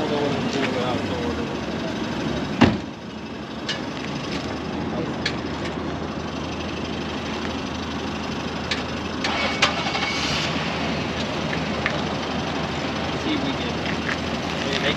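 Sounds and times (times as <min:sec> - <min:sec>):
vehicle engines idling: 0:00.0 - 0:14.9.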